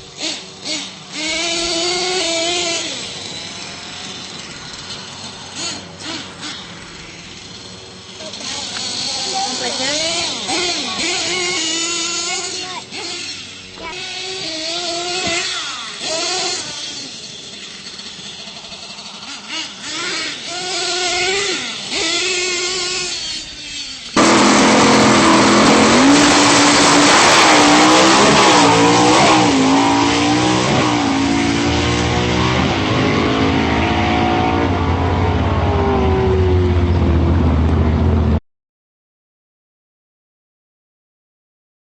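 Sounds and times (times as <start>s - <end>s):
model trucks revving: 0.0s - 38.4s.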